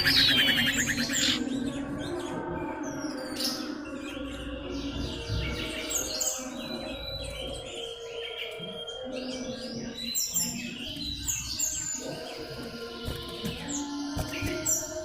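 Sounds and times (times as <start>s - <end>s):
bird chirping: 0.0s - 15.0s
low hum or music: 0.0s - 15.0s.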